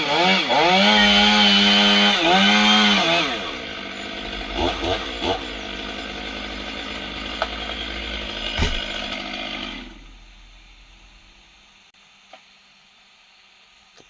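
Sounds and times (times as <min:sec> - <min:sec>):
chainsaw engine idling: 0:00.0 - 0:11.4.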